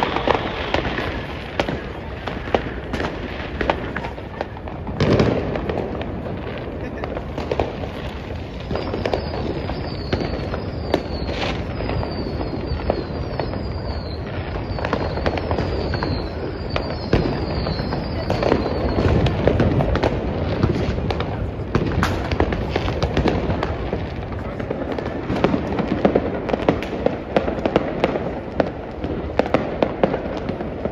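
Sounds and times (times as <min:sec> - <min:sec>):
fireworks crackling and banging: 0:00.0 - 0:30.9
whistling fireworks falling in pitch: 0:00.0 - 0:30.9.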